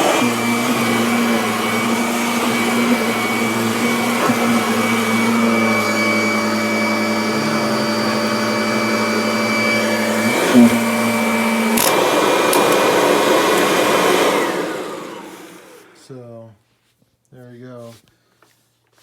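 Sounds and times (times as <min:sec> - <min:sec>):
vacuum cleaner running over carpet: 0:00.0 - 0:16.0.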